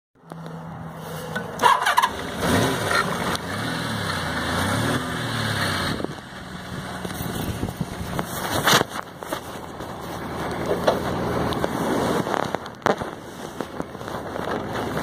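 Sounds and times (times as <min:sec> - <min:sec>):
motorcycle engine starting and revving: 0:00.2 - 0:15.0.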